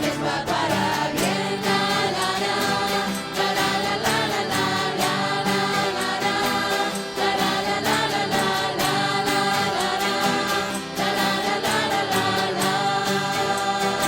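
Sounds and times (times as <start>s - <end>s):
live band playing worship music: 0.0s - 14.0s
people singing choruses: 0.0s - 14.0s.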